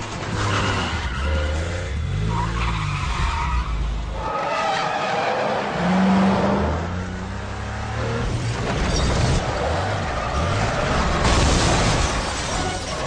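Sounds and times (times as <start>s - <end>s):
car engines revving: 0.0s - 12.3s
tyres skidding and squealing: 0.0s - 13.0s.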